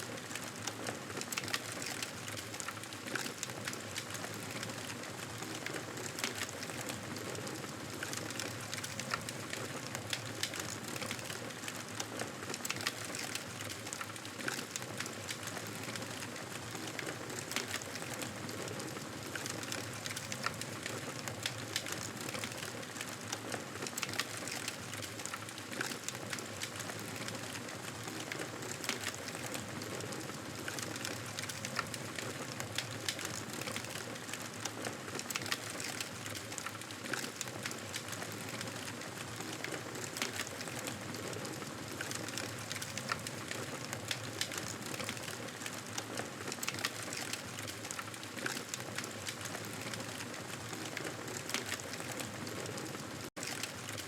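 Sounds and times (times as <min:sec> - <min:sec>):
campfire crackling and popping: 0:00.1 - 0:54.0.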